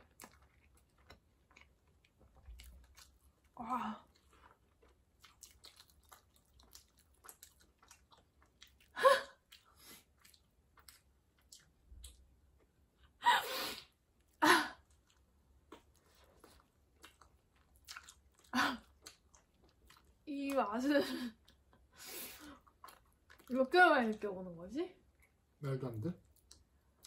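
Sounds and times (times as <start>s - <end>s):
quiet chewing: 0.0s - 13.1s, 14.2s - 20.7s, 21.3s - 24.2s, 26.2s - 27.0s.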